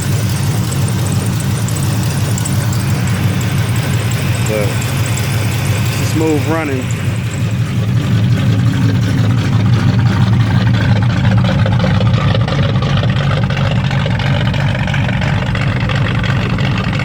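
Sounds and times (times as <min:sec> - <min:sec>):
car engine idling with deep rumble: 0:00.0 - 0:17.0.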